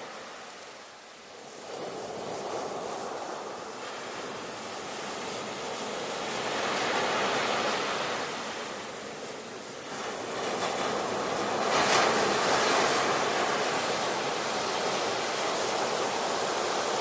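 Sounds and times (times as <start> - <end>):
breaking waves: 0.0 - 17.0.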